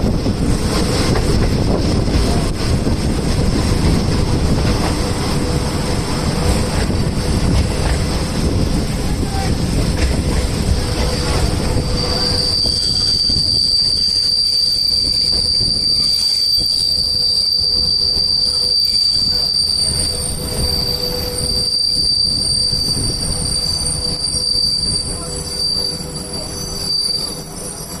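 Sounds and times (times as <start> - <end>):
train rumbling: 0.0 - 28.0
railway wheels squealing: 0.3 - 28.0.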